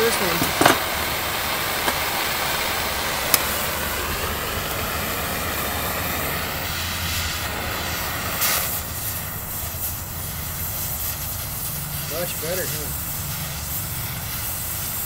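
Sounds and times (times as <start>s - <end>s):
cutting torch flame hissing: 0.0s - 15.0s.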